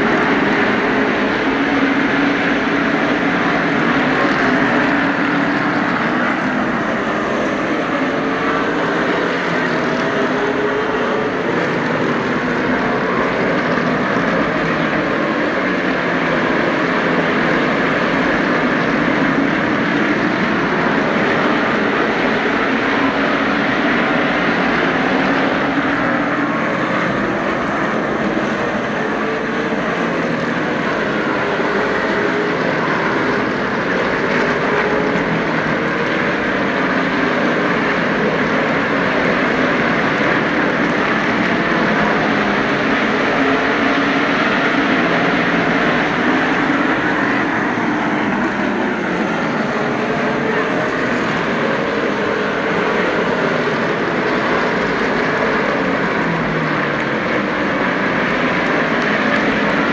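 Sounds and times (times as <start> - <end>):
race cars engines roaring: 0.0 - 59.9.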